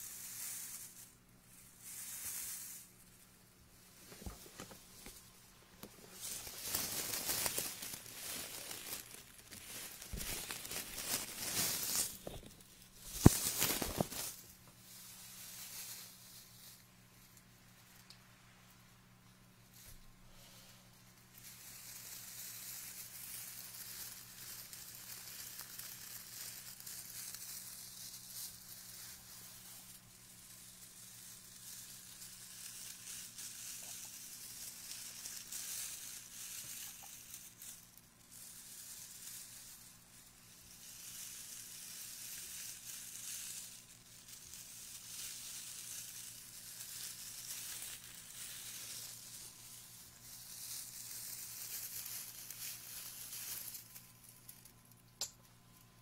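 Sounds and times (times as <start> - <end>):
crisp crackling rustle on microphone: 0.0 - 55.2.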